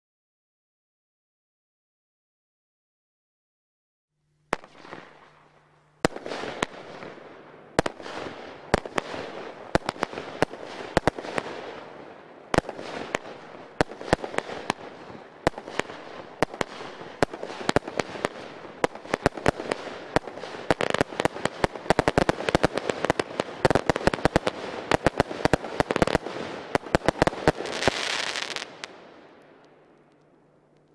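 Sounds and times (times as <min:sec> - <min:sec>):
fireworks launch shots and bursts: 0:04.5 - 0:30.1
fireworks crackling: 0:04.5 - 0:30.9.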